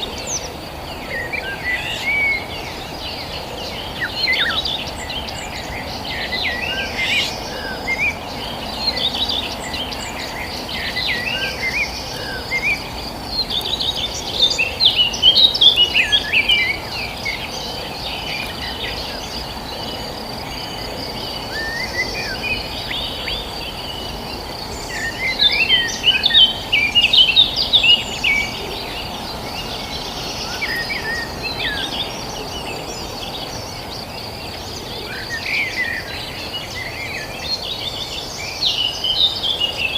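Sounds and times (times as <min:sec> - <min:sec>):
high insect drone: 0:00.0 - 0:39.9
small birds chirping: 0:00.0 - 0:39.9.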